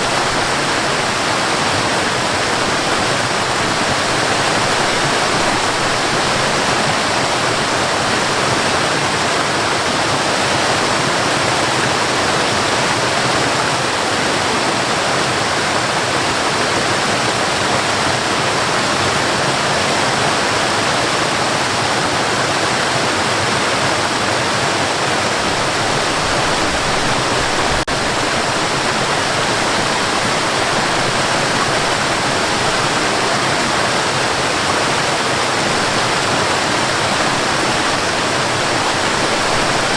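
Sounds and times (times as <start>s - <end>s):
cascading water rushing: 0.0s - 39.9s.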